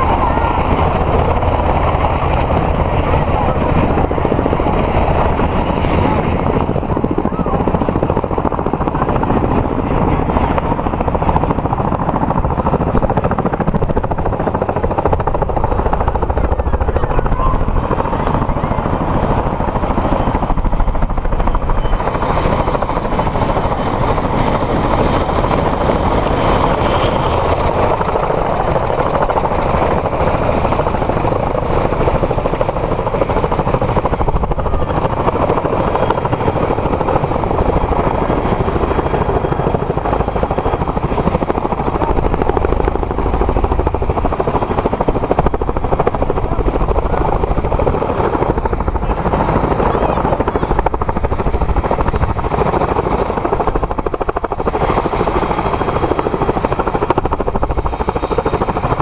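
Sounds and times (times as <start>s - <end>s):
helicopter rotors chopping: 0.0s - 59.0s.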